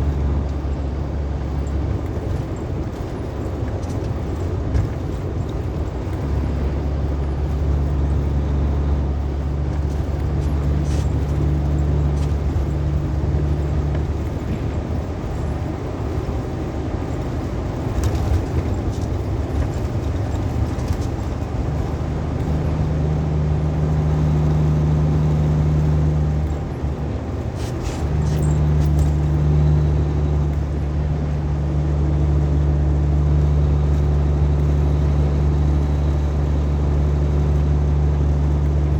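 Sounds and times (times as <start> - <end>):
truck engine and road drone: 0.0 - 38.9.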